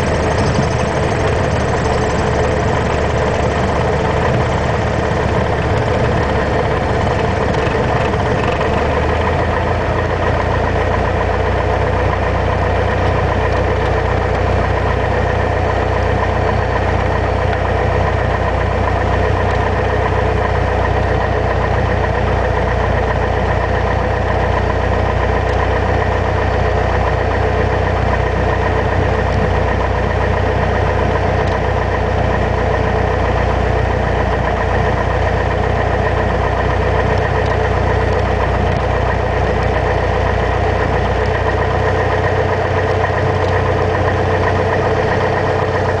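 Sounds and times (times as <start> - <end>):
small plane engine and propeller: 0.0 - 46.0.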